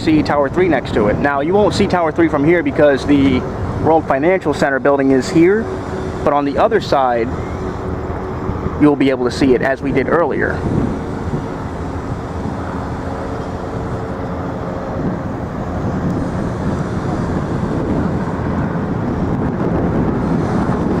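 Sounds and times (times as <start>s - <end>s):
city traffic and engines: 0.0s - 21.0s
low machine hum: 0.0s - 21.0s.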